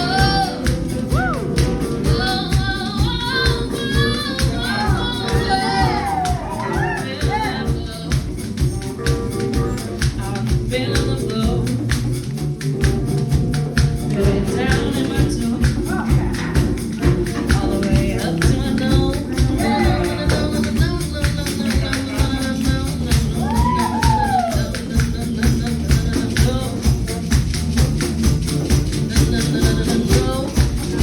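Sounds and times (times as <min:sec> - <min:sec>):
person singing: 0:00.0 - 0:08.4, 0:09.1 - 0:11.9, 0:14.0 - 0:27.3, 0:28.8 - 0:31.0
hand drums playing: 0:00.0 - 0:31.0
other percussion: 0:00.0 - 0:31.0.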